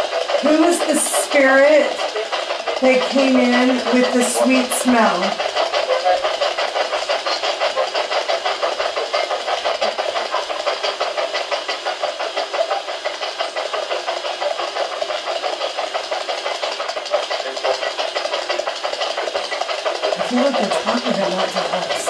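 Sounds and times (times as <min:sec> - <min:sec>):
loud radio static chopped rapidly: 0:00.0 - 0:22.0.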